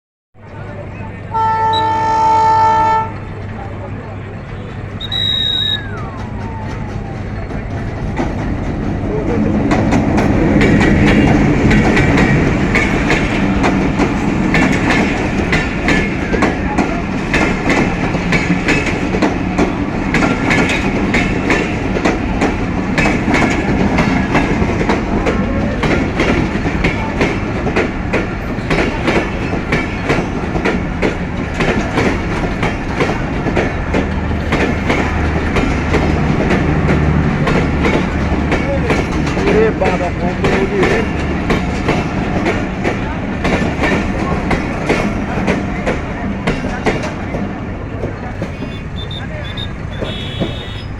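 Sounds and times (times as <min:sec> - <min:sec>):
train wheels clattering over rail joints: 0:05.1 - 0:50.9.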